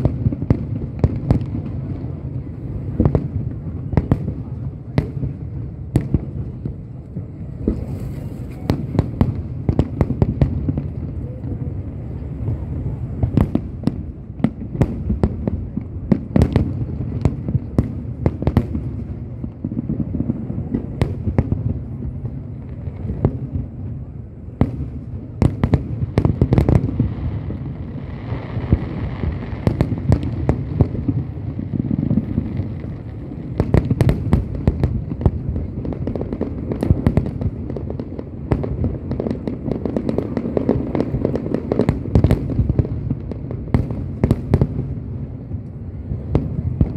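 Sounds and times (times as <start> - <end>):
fireworks bangs: 0.0 - 46.9.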